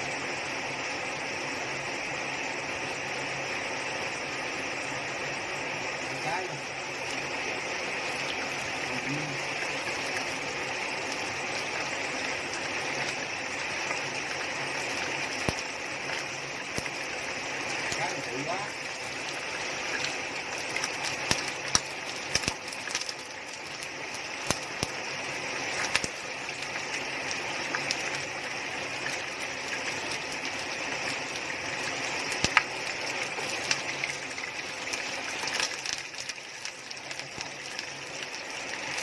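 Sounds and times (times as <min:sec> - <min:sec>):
heavy rain pouring: 0:01.4 - 0:39.0.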